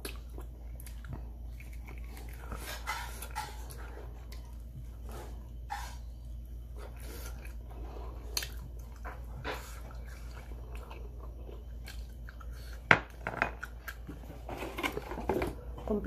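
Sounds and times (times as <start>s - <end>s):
person chewing crunchy food: 0.0s - 15.1s.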